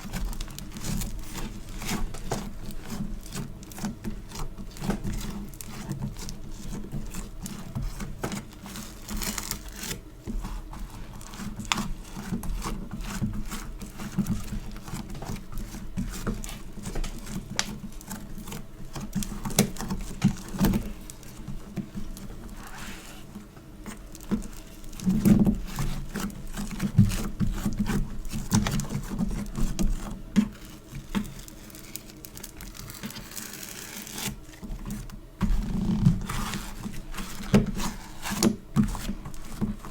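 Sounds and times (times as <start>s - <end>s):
sticky compound crackling: 0.0s - 39.9s.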